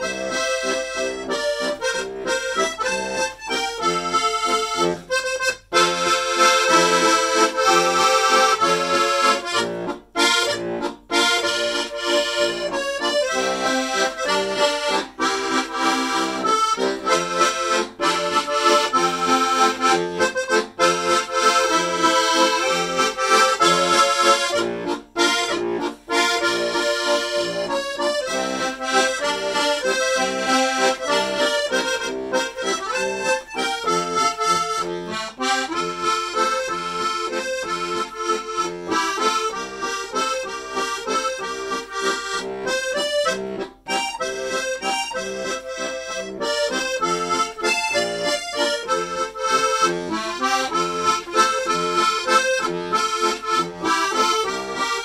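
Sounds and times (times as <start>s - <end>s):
piano accordion playing a waltz: 0.0s - 55.0s.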